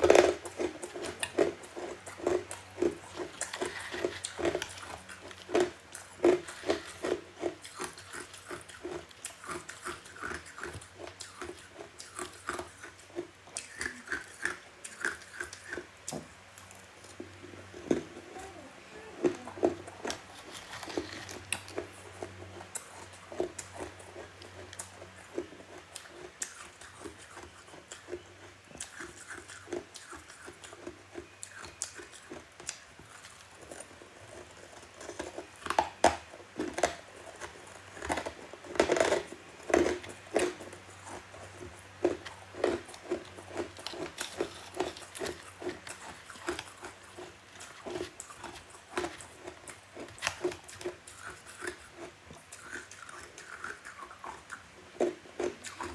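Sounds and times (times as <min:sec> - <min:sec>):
chewing crunchy frost: 0:00.0 - 0:55.9.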